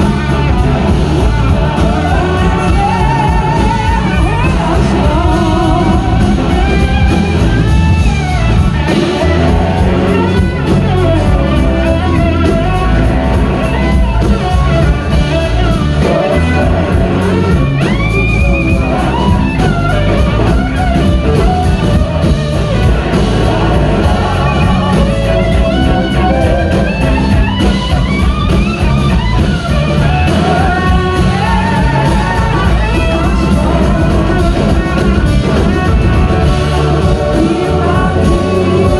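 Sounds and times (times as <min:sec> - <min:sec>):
electric guitar lead: 0:00.0 - 0:38.9
live rock band through pa: 0:00.0 - 0:38.9.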